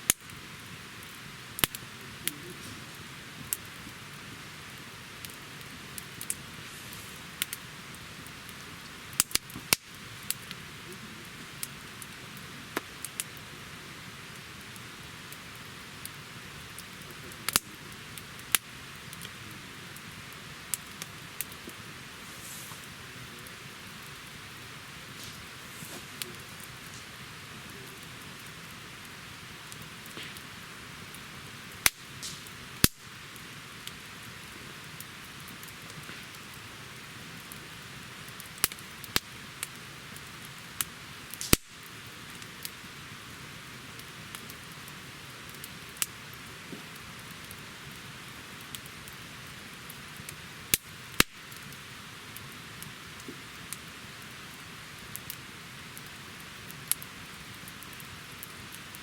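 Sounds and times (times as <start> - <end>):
sharp pops of fire: 0.0 - 13.4, 14.3 - 51.8
campfire crackling: 0.0 - 59.0.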